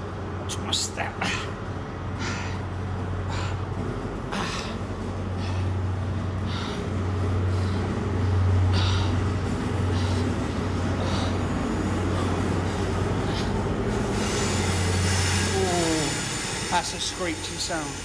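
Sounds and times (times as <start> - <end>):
steady low hum: 0.0 - 18.0
heavy panting breaths: 1.2 - 16.7.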